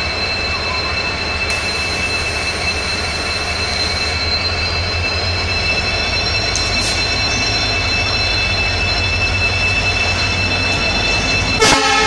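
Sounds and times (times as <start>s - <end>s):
diesel locomotive engine rumble: 0.0s - 12.0s
high engine whine: 0.0s - 12.0s.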